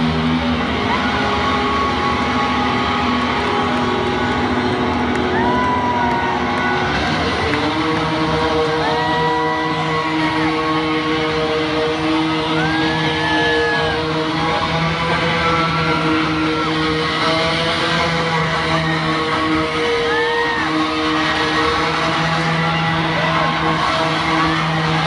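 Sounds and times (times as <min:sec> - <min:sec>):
amplifier feedback: 0:00.0 - 0:25.0
crowd whooping: 0:00.0 - 0:25.0
distorted electric bass drone: 0:00.0 - 0:25.0.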